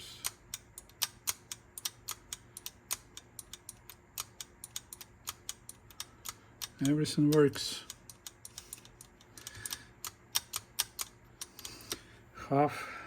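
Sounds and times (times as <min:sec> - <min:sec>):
tape transport parts clicking: 0:00.0 - 0:12.1
faint steady hum: 0:00.0 - 0:13.0.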